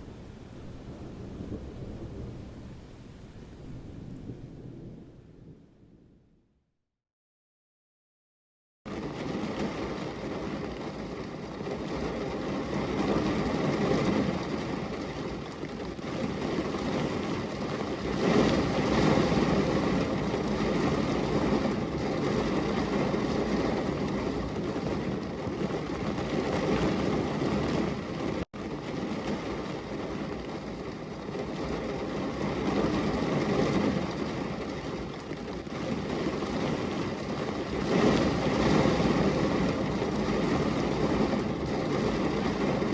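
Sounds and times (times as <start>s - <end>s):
heavy rain: 0.0s - 5.9s, 8.9s - 42.9s.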